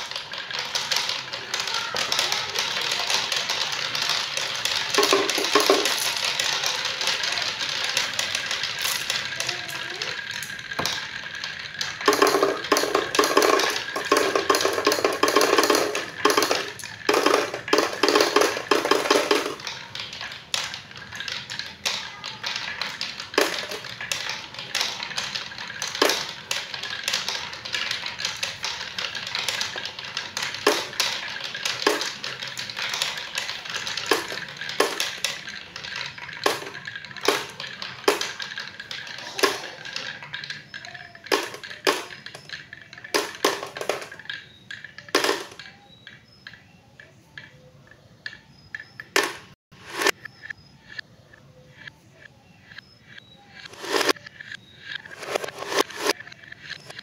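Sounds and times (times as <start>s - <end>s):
marbles rolling down wooden track: 0.0s - 51.0s, 52.7s - 57.0s.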